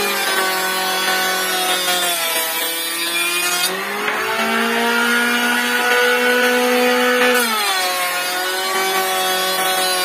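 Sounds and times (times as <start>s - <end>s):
cutter cutting wood: 0.0s - 10.0s
woodworking machine motor whine: 0.0s - 10.0s.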